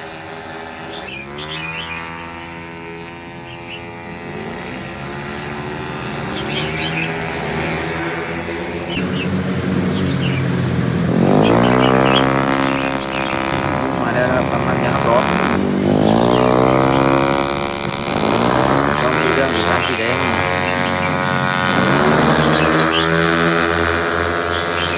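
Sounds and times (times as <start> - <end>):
engine revving sharply: 0.0 - 24.9
race car engines running: 0.0 - 24.9.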